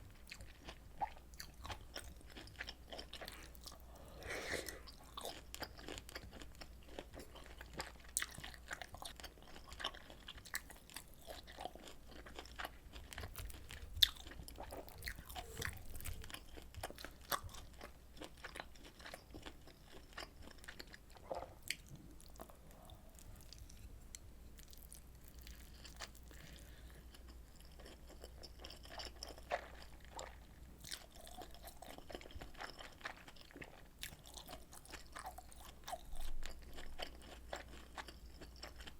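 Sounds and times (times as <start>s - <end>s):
close chewing and biting: 0.1s - 23.9s, 24.6s - 38.9s.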